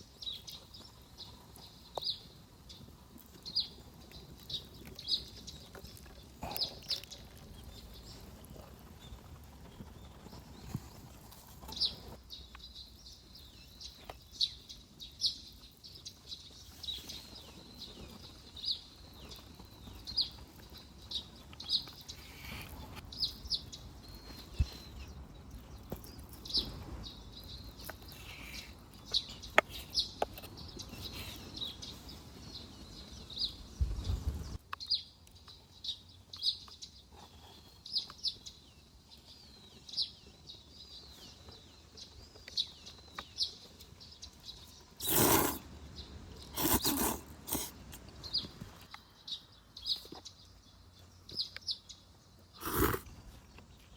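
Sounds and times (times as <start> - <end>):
bird chirping: 0.0 - 53.9.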